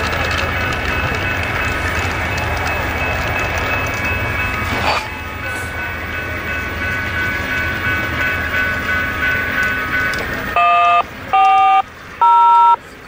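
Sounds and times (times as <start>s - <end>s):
level-crossing bell ringing: 0.0s - 12.8s
train rumbling: 0.0s - 13.0s.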